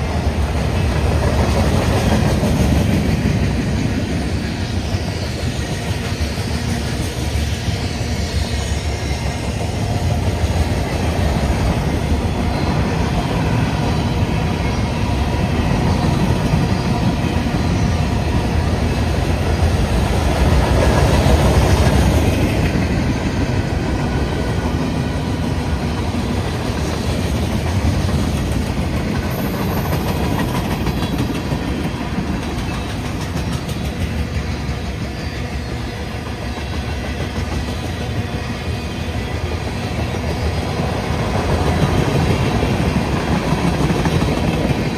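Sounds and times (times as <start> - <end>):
freight train rolling past: 0.0 - 44.9
wheels clickety-clack: 0.0 - 44.9.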